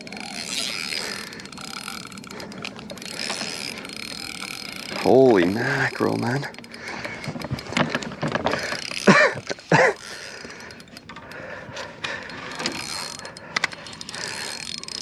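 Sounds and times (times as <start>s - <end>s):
fishing reel ratcheting: 0.0s - 15.0s.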